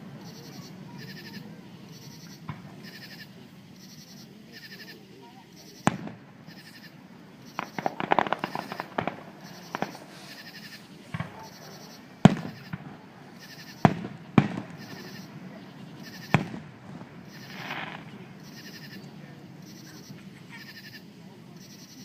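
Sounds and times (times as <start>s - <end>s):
fireworks crackling: 0.0s - 22.0s
fireworks sharp bangs: 0.0s - 22.0s.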